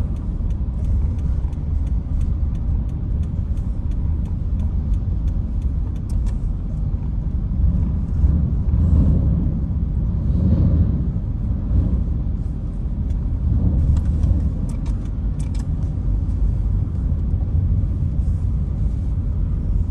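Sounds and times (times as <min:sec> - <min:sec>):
ferry low rumble: 0:00.0 - 0:19.9.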